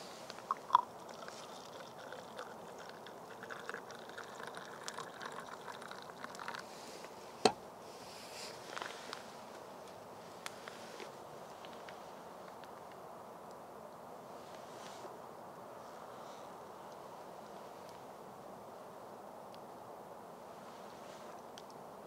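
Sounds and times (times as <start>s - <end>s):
soft steady hiss: 0.0s - 22.0s.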